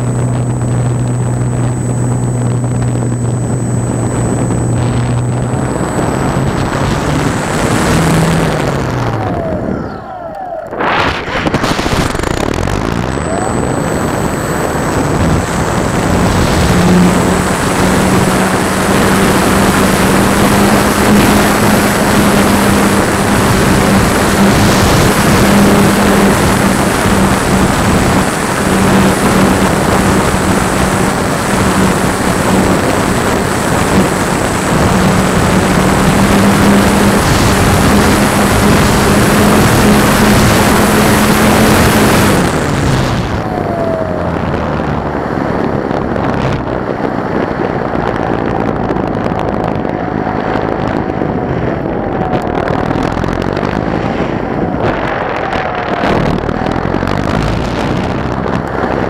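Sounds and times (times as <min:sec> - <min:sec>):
electric motor and propeller humming: 0:00.0 - 0:59.0
wind rush over microphone: 0:00.0 - 0:59.0.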